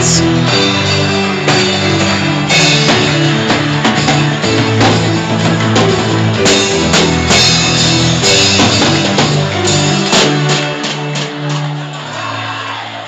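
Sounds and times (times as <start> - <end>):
live band music: 0.0 - 11.8.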